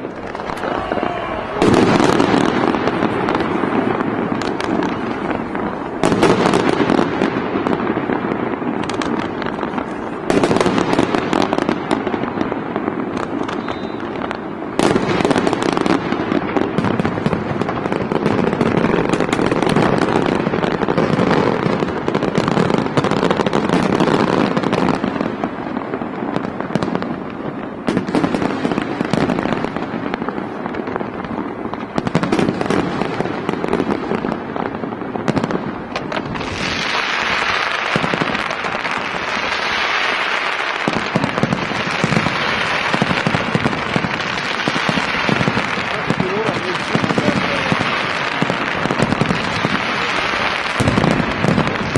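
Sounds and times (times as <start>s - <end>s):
fireworks bursts and crackling: 0.0s - 51.9s.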